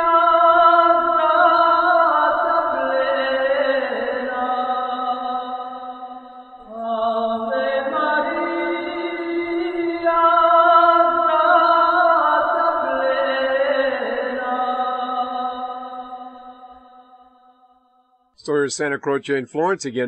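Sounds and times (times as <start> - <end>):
voices chanting in harmony: 0.0 - 16.9.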